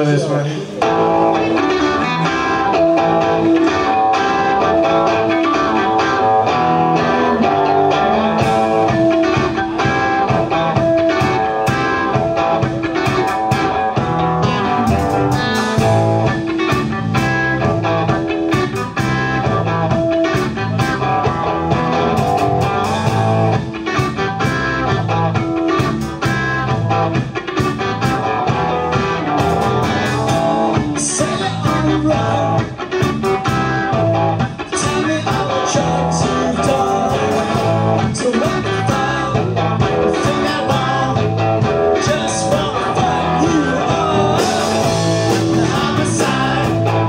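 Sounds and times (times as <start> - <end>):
blues-rock band playing: 0.0 - 47.0
electric guitar: 0.0 - 47.0.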